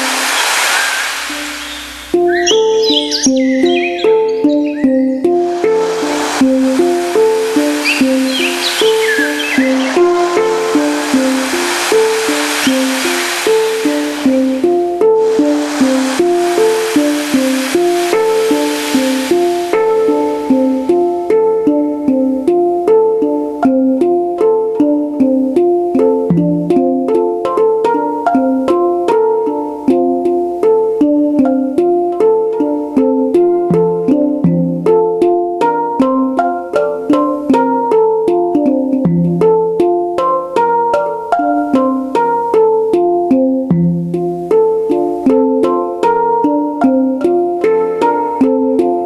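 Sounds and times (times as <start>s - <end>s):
ringing electronic hang drum notes: 2.0s - 49.0s.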